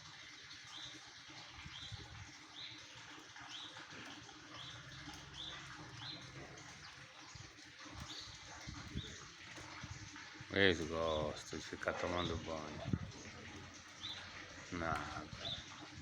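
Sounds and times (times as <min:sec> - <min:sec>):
small birds chirping: 0:00.5 - 0:16.0.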